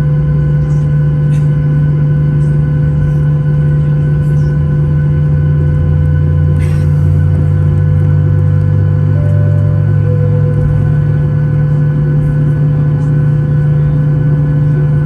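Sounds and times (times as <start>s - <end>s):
aircraft cabin drone: 0.0s - 15.0s
thin whine: 2.4s - 15.0s.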